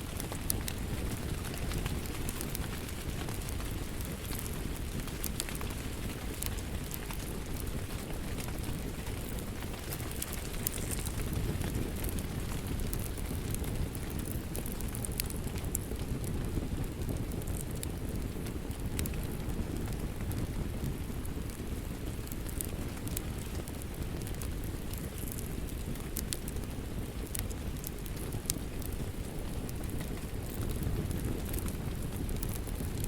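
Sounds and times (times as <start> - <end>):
steady rain: 0.0 - 33.0
wood fire crackling: 0.0 - 33.0.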